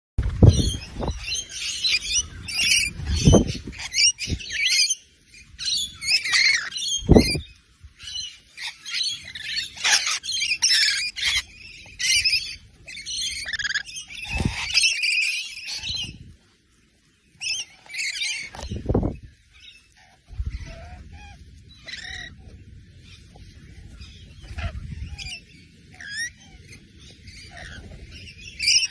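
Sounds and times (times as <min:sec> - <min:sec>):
parrots chattering and squawking: 0:00.5 - 0:16.2, 0:17.4 - 0:28.9.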